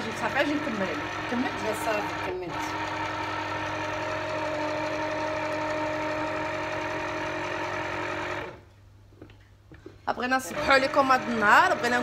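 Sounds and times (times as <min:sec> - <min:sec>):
electric juicer motor humming: 0:00.0 - 0:08.7, 0:10.3 - 0:12.0.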